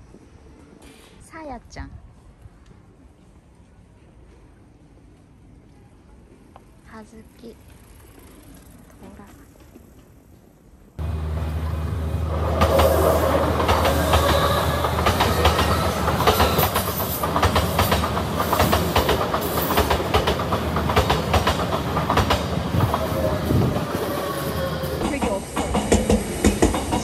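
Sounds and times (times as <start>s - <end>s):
train low rumble: 1.9s - 27.0s.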